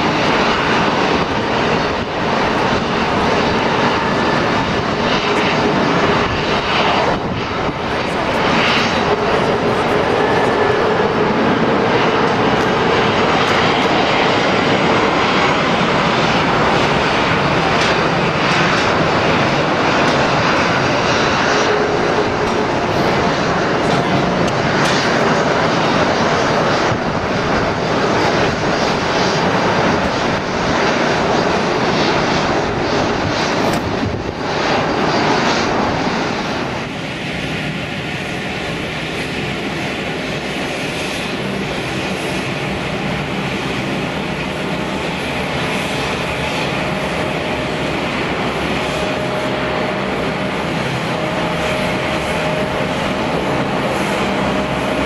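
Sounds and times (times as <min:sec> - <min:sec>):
engine whine: 0:00.0 - 0:55.0
jet engines roaring: 0:00.0 - 0:55.0.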